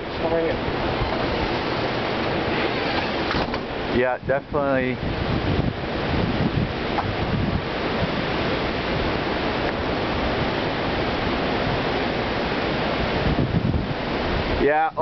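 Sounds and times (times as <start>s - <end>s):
storm wind rushing: 0.0s - 14.8s
wind buffeting microphone: 0.0s - 15.0s.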